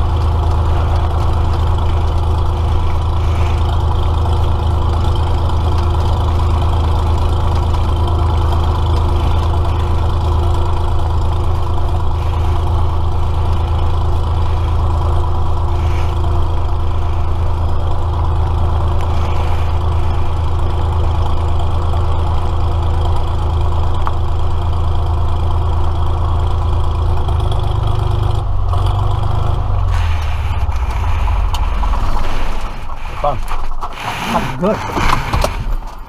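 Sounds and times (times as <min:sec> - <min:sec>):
light aircraft engine drone: 0:00.0 - 0:36.0.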